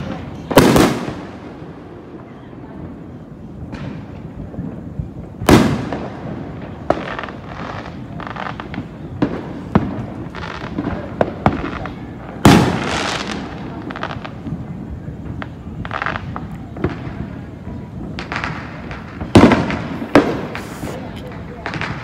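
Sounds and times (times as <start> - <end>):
fireworks booming: 0.0 - 22.0
fireworks popping and crackling: 0.0 - 22.0.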